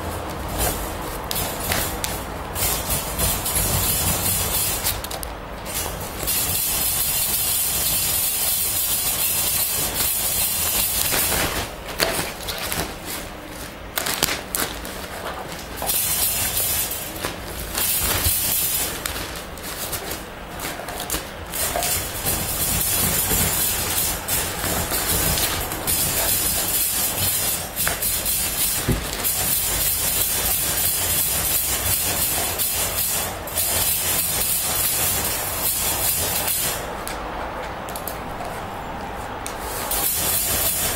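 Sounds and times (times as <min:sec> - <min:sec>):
plastic sheeting rustling: 0:00.0 - 0:40.9.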